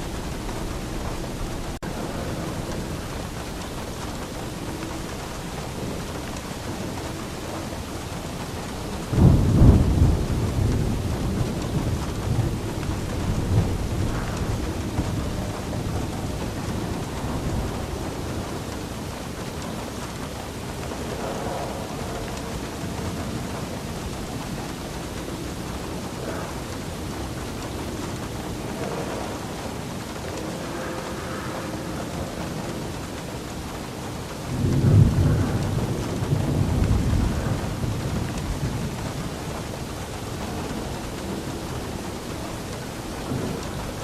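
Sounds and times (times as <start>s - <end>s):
steady rain falling: 0.0s - 44.0s
thunder rumbling: 0.0s - 44.0s.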